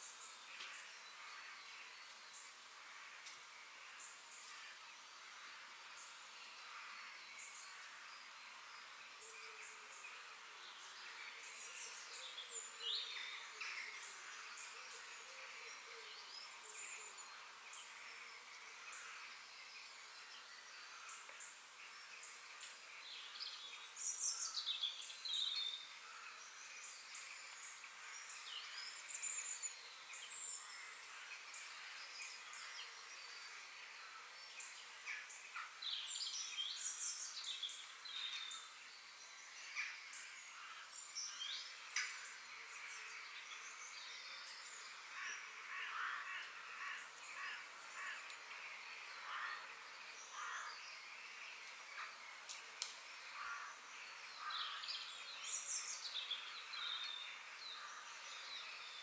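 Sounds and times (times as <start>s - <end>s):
faint forest background hiss: 0.0s - 59.0s
songbirds chirping: 0.0s - 59.0s.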